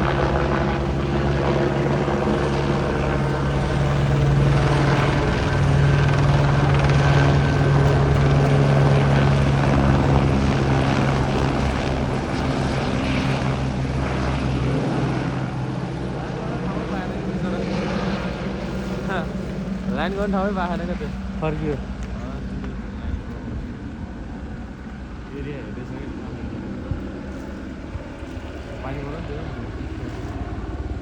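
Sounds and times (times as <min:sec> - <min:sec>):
helicopter rotor and engine: 0:00.0 - 0:31.0.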